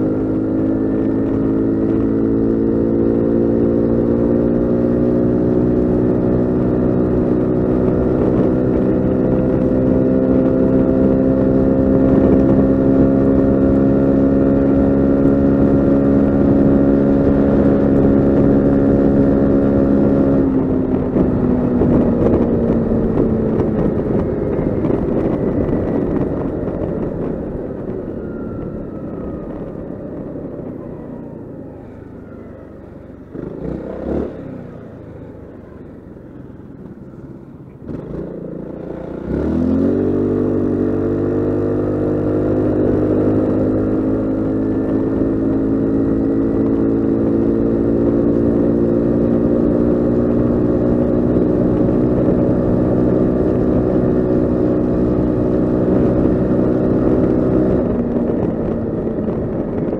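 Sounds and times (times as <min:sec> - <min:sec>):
scooter engine droning: 0:00.0 - 0:59.9.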